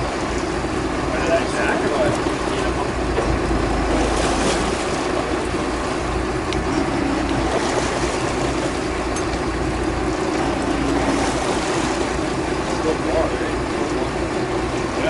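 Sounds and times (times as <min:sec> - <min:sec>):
boat engine running: 0:00.0 - 0:15.0
water wash: 0:00.0 - 0:15.0.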